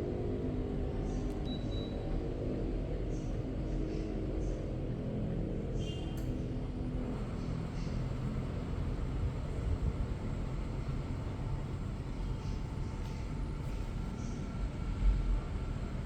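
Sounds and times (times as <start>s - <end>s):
air conditioner rumbling: 0.4s - 16.0s.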